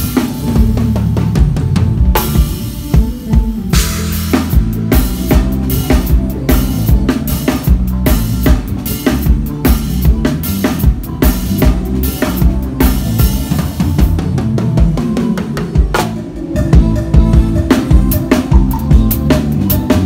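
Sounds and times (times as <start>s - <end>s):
bass line: 0.0s - 20.0s
drum kit playing: 0.0s - 20.0s.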